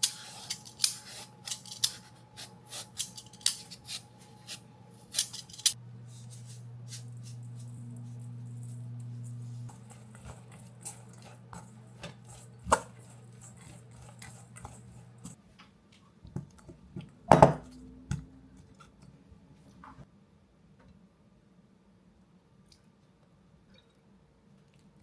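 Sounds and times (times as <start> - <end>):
low appliance hum: 0.0 - 20.2.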